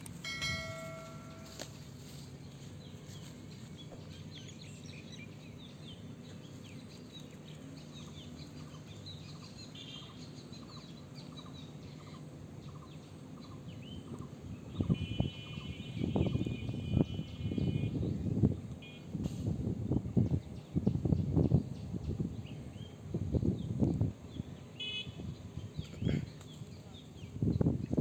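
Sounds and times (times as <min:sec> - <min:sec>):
small birds chirping: 0:02.4 - 0:19.0, 0:20.0 - 0:28.0.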